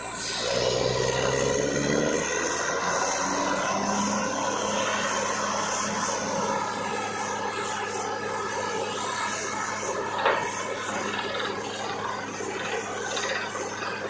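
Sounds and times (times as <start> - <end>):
drilling rig droning: 0.0 - 14.0.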